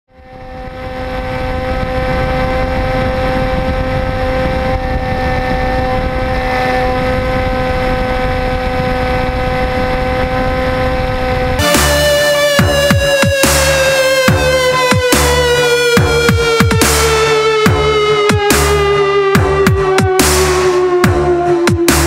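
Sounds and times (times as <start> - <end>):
electric motor whine: 0.1 - 22.0
wind rush on microphone: 0.1 - 22.0.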